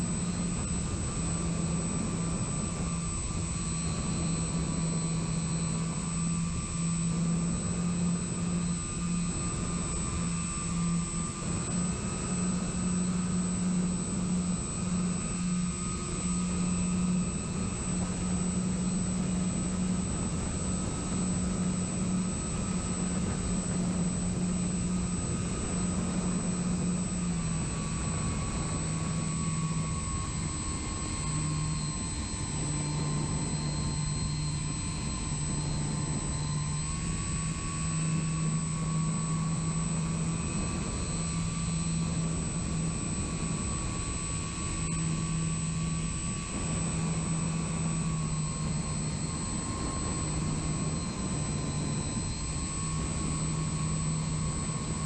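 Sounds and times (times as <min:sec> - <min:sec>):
faint high whine: 0:00.0 - 0:55.0
propeller drone: 0:00.0 - 0:55.0.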